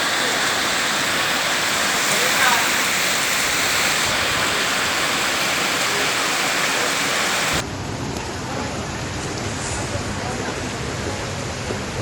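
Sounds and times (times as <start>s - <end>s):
heavy rain pouring: 0.0s - 11.9s.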